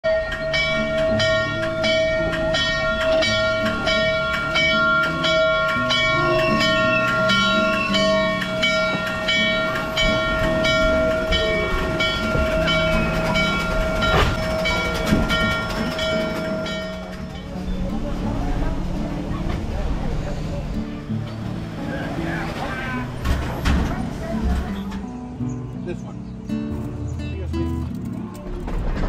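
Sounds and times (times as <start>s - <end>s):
low rumbles: 0.0s - 25.3s.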